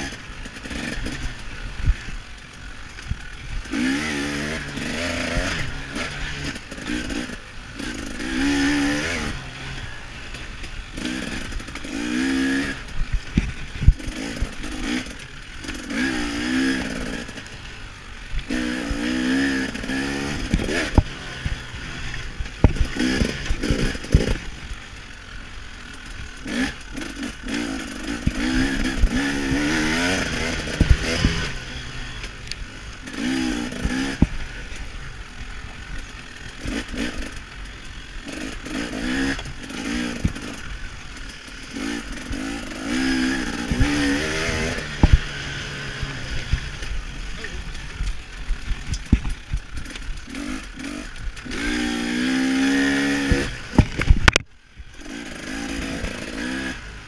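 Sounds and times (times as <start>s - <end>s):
knocks and clatter of bike: 0.0s - 17.6s, 18.3s - 25.1s, 25.8s - 56.7s
dirt bike engine revving: 0.0s - 57.0s.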